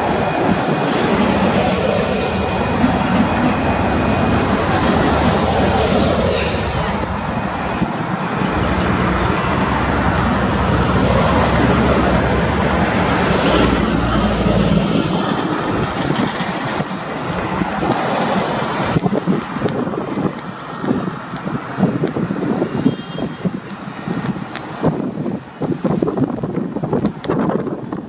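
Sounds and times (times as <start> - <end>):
train wheels rolling on rails: 0.0 - 28.0.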